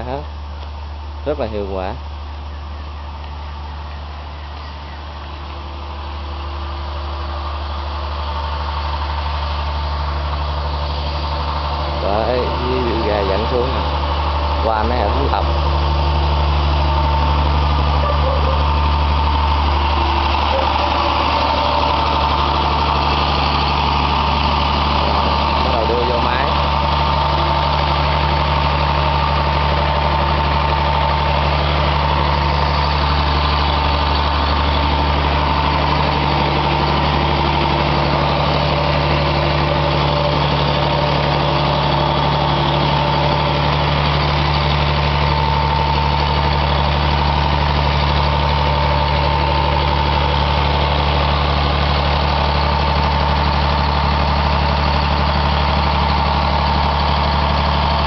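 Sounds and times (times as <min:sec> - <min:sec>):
generator engine humming: 0:00.0 - 0:58.0.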